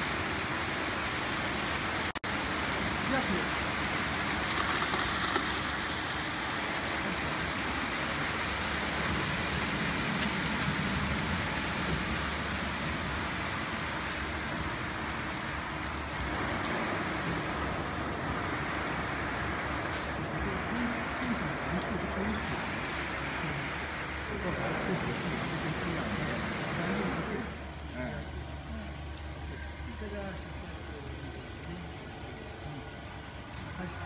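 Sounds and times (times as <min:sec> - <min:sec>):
water spraying over a car: 0:00.0 - 0:34.0.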